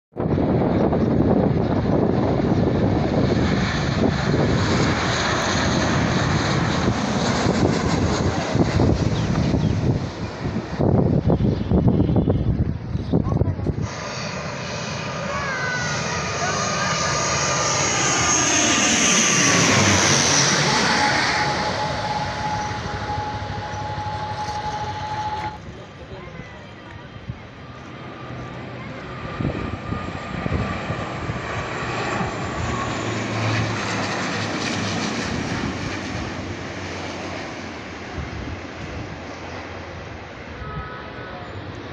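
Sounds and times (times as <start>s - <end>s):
jet airliner engines passing overhead: 0.1s - 41.9s.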